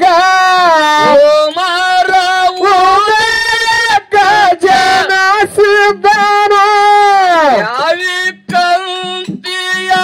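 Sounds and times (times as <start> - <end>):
man singing folk song: 0.0 - 10.0.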